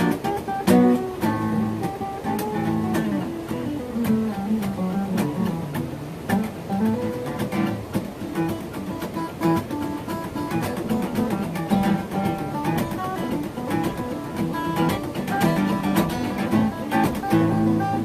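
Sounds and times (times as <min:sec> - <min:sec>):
blues guitar chords: 0:00.0 - 0:18.0
lead guitar lines: 0:00.0 - 0:18.0.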